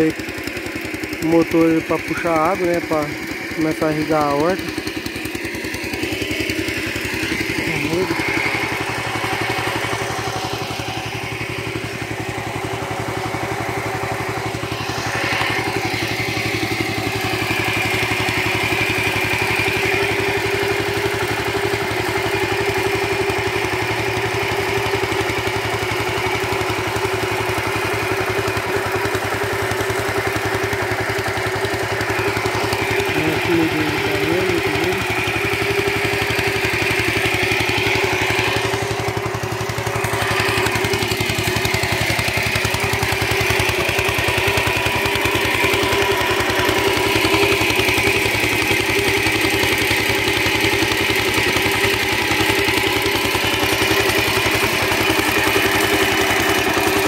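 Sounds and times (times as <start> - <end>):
small water pump engine running: 0.0 - 57.0.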